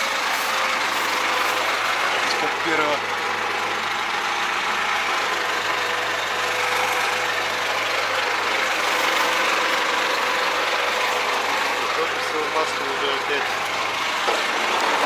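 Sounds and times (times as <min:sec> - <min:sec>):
diesel truck engine idling: 0:00.0 - 0:15.0
engine knocking: 0:00.0 - 0:15.0.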